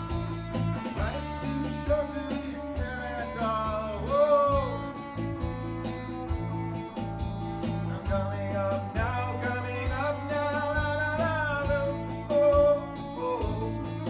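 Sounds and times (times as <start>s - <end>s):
rock song with guitar: 0.0s - 14.0s
singing voice: 0.0s - 14.0s.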